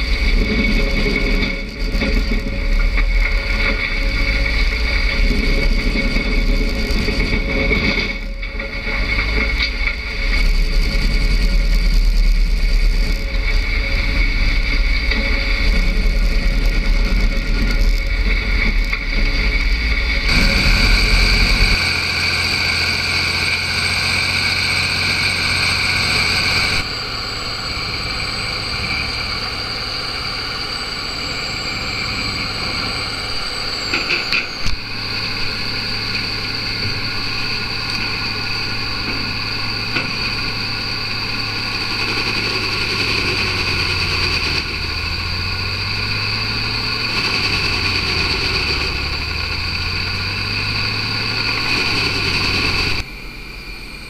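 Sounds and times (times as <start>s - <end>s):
grinder diesel engine drone: 0.0s - 54.0s.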